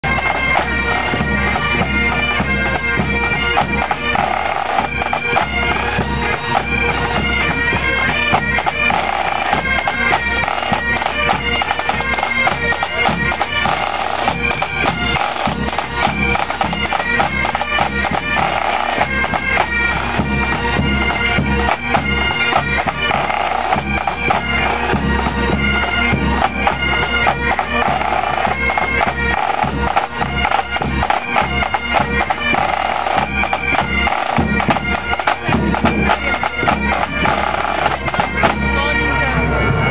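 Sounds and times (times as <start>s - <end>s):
bagpipes playing a march: 0.0s - 39.9s
drums beating: 0.0s - 39.9s.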